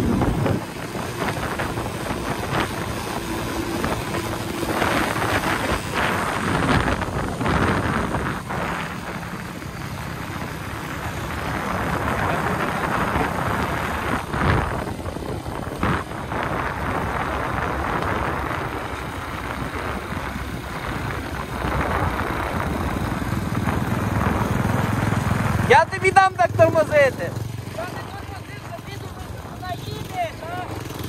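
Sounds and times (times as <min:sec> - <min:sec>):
wind buffeting microphone: 0:00.0 - 0:25.7
motorcycle engine running: 0:00.0 - 0:31.0.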